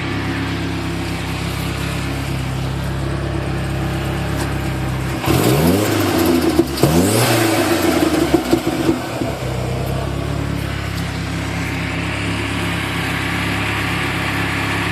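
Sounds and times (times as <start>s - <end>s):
engine revving and idling: 0.0s - 14.9s.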